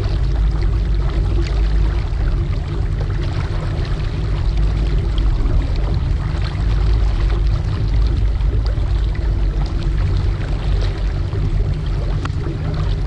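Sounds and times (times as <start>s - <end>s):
boat motor running: 0.0s - 13.0s
water rushing along hull: 0.0s - 13.0s.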